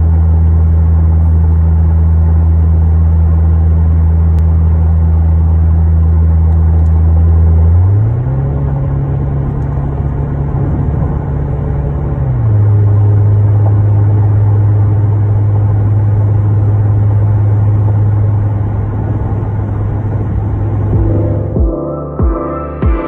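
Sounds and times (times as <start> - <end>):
road noise inside car: 0.0 - 22.8
car engine drone: 0.0 - 23.0.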